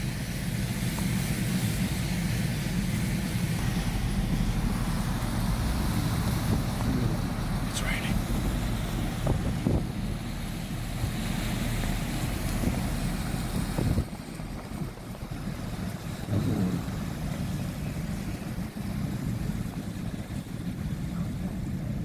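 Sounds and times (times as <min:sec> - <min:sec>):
road and wind noise: 0:00.0 - 0:22.0
low rumble: 0:03.3 - 0:22.0.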